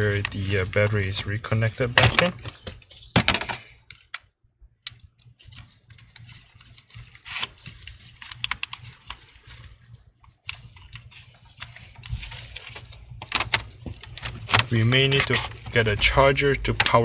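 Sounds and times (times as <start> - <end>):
laptop clicks and plastic rustling: 1.8 - 15.8.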